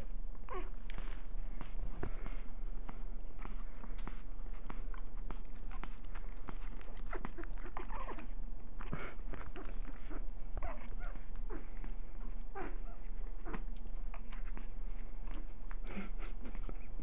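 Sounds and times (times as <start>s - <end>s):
puppies whimpering and squeaking: 0.0s - 17.0s
puppies suckling clicks: 0.4s - 17.0s.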